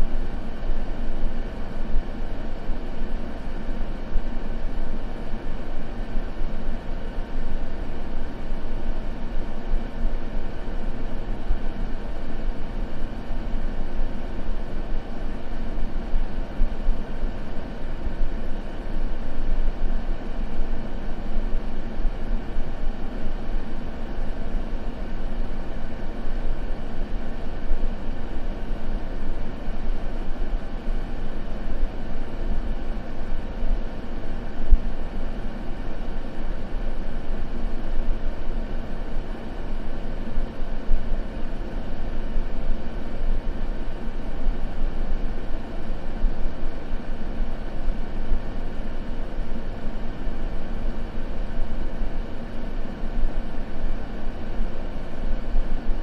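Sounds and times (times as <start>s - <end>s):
white noise hiss with deep rumble: 0.0s - 56.0s.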